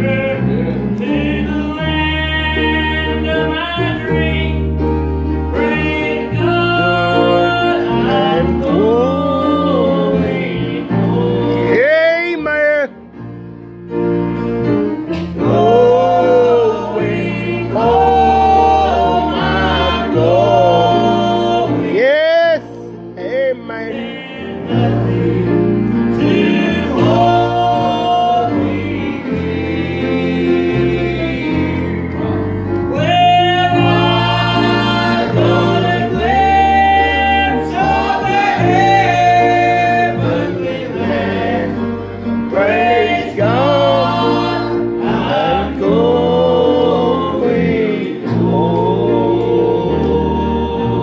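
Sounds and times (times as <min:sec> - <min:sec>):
men singing gospel: 0:00.0 - 0:12.9, 0:14.6 - 0:51.0
instrumental bass accompaniment: 0:00.0 - 0:51.0.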